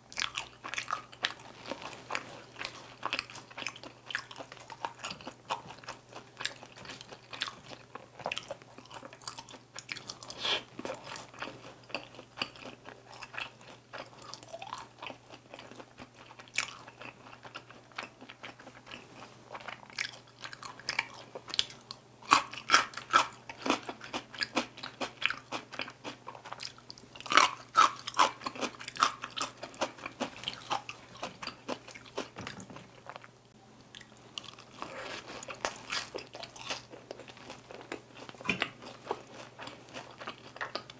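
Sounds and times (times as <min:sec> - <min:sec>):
chewing and crunching fried chicken: 0:00.0 - 0:40.9.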